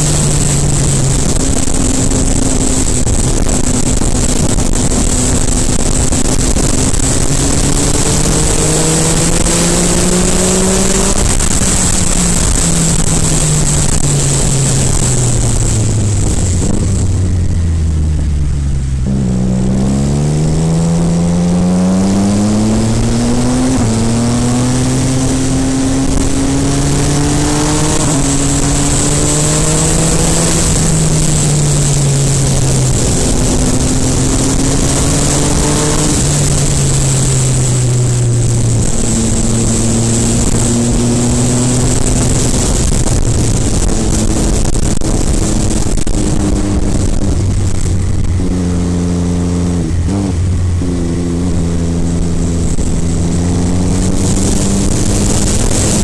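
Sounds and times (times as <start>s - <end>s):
motorcycle engine revving: 0.0s - 56.0s
rushing noise: 0.0s - 56.0s.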